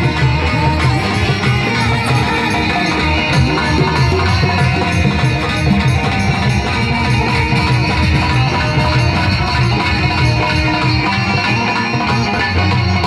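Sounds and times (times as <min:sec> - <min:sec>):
loud instrumental music with beat: 0:00.0 - 0:13.0.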